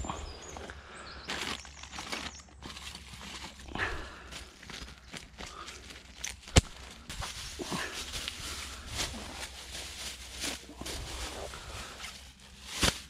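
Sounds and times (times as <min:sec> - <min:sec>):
plastic bag crinkling: 0:01.2 - 0:13.0.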